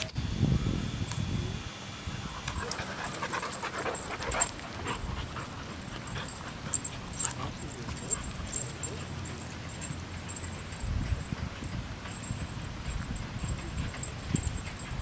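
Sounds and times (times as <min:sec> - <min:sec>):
dog panting: 0:02.3 - 0:15.0.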